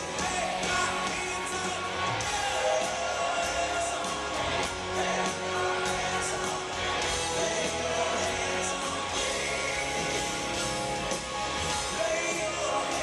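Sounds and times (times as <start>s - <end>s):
person singing: 0.0s - 10.6s, 11.7s - 13.0s
live rock band: 0.0s - 13.0s.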